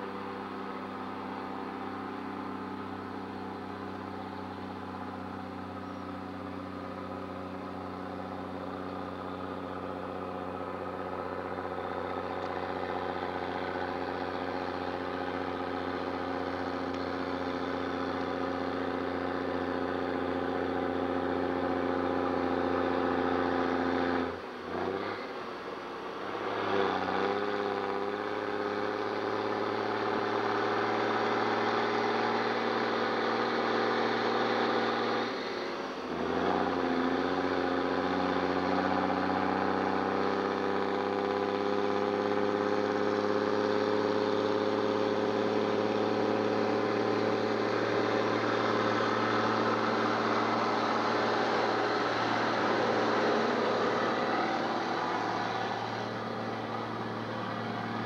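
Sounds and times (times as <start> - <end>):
diesel truck labouring uphill: 0.0 - 58.0.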